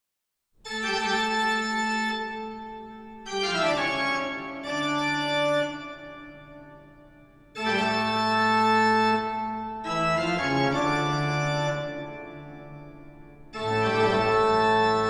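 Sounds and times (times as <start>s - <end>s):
organ chords: 0.6s - 15.0s.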